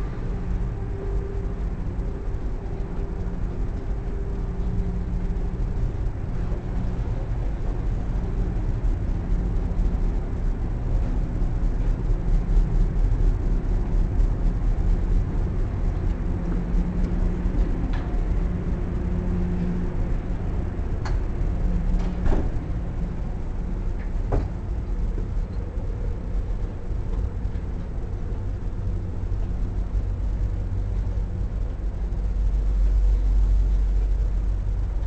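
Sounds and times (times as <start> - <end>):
machinery and ventilation hum: 0.0 - 35.0.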